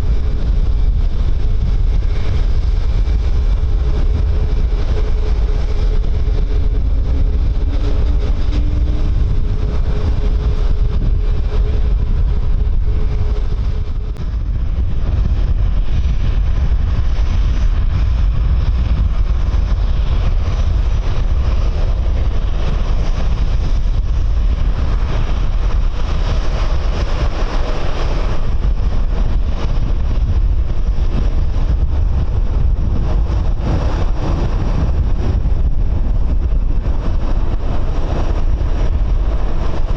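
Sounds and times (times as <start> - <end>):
jet engine noise: 0.0 - 39.9
wind buffeting microphone: 0.0 - 39.9.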